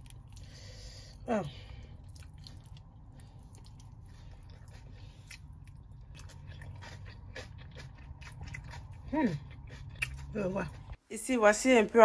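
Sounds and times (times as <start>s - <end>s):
person chewing crunchy food: 0.0s - 11.0s.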